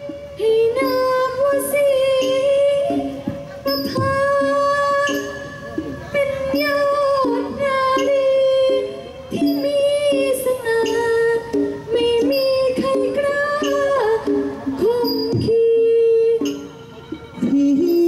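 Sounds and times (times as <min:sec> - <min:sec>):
instrumental accompaniment: 0:00.0 - 0:18.0
woman singing through microphone: 0:00.0 - 0:18.0.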